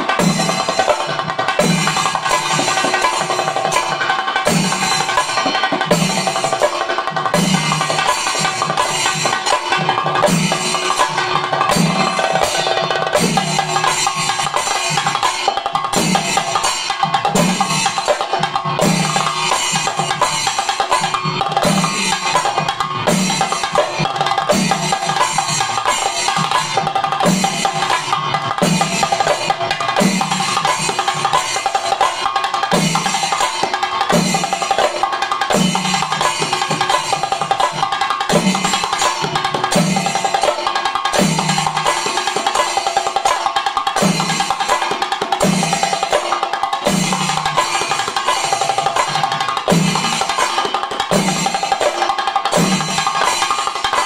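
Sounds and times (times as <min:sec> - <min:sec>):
drums beaten rapidly with sticks: 0:00.0 - 0:54.0
hand cymbals ringing: 0:00.0 - 0:54.0.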